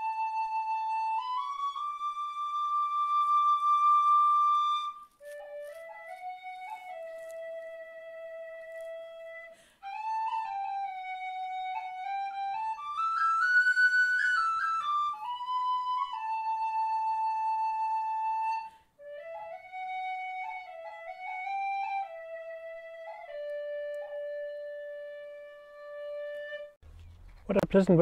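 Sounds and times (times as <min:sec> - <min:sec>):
flute-like wind instrument melody: 0:00.0 - 0:26.8.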